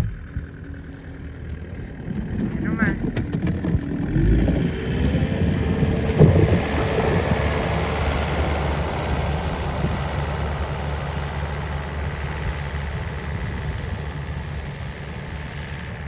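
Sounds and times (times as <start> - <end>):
snow-clearing machine engine: 0.0 - 16.0.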